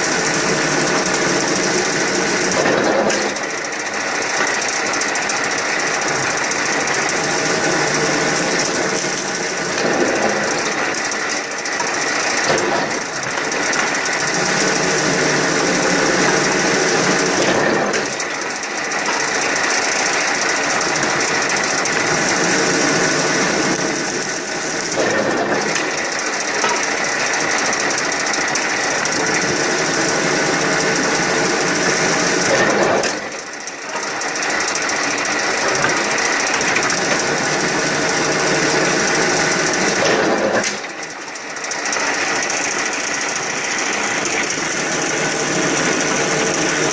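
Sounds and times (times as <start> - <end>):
wood peeling machine clattering: 0.0 - 46.9.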